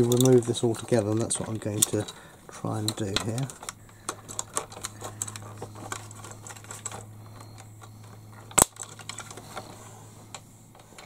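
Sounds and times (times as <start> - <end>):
plastic parts clicking and tapping: 0.0 - 11.0
steady low hum: 0.0 - 11.0.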